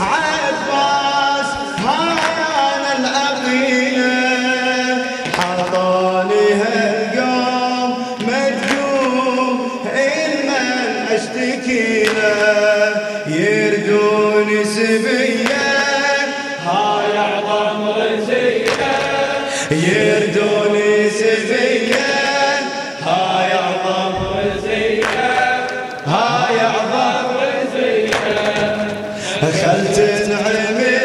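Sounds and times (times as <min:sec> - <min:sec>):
men chanting a lament: 0:00.0 - 0:31.0.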